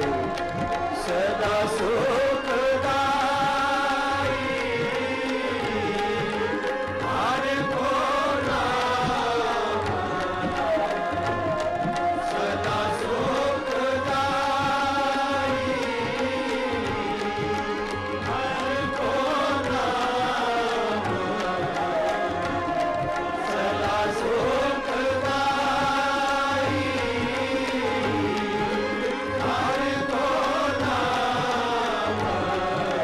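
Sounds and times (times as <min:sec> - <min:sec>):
group singing devotional hymn: 0:00.0 - 0:33.0
tabla rhythm: 0:00.0 - 0:33.0.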